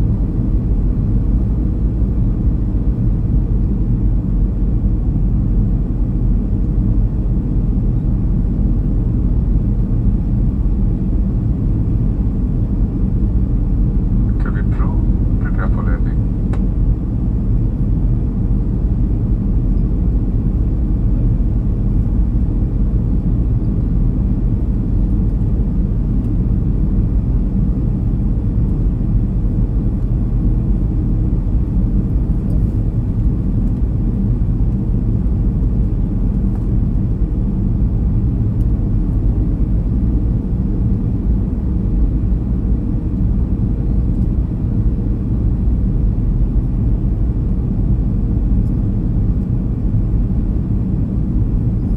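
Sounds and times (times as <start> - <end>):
airliner cabin engine drone: 0.0 - 51.9.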